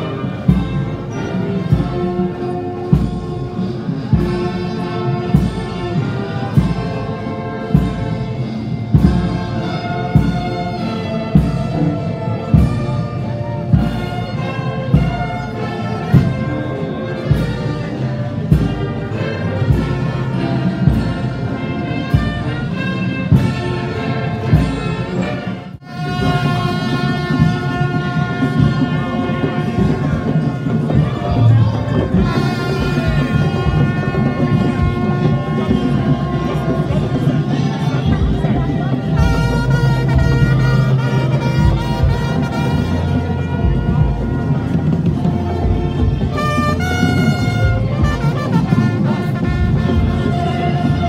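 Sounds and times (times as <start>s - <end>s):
brass band playing: 0.0s - 51.0s
steady drum beat: 0.0s - 51.0s.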